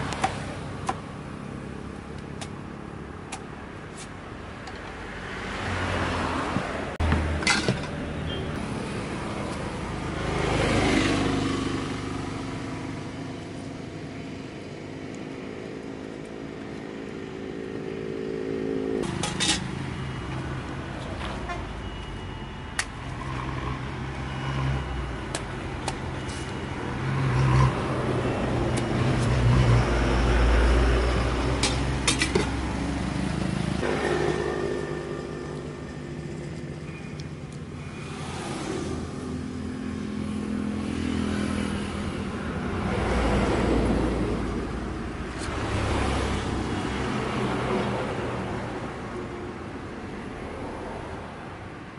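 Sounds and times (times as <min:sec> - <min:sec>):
vehicles passing: 0:00.0 - 0:51.9.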